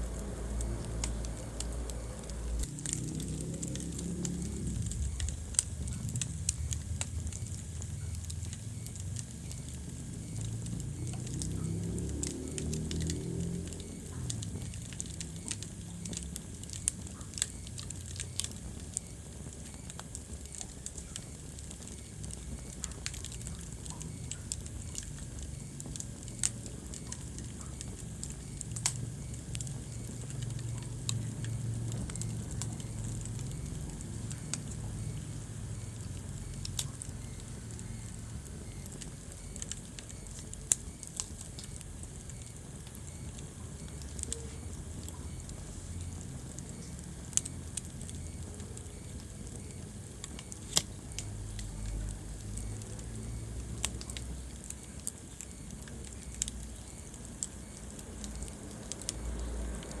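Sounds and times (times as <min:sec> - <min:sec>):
low rumble of flames: 0:00.0 - 1:00.0
wood fire crackling and popping: 0:00.0 - 1:00.0.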